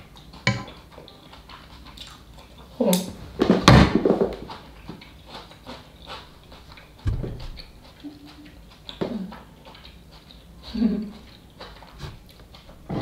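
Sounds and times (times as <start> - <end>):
chewing and wet mouth noises: 0.0 - 13.0.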